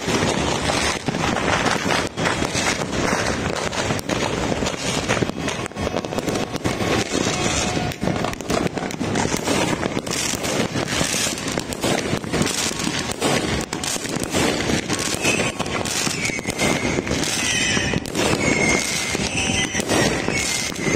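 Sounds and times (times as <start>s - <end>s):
fireworks bangs and crackling: 0.0s - 20.9s.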